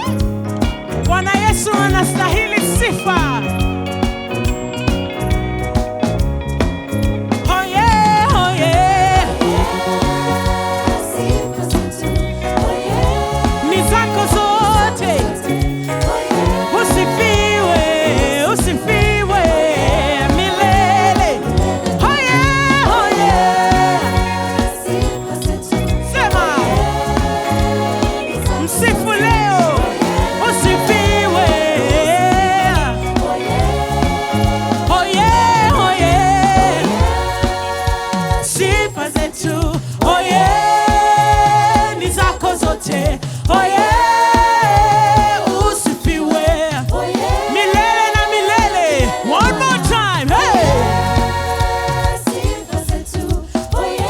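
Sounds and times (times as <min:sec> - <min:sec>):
gospel singing: 0:00.0 - 0:06.6, 0:07.3 - 0:54.0
band with bass and steady beat: 0:00.0 - 0:54.0.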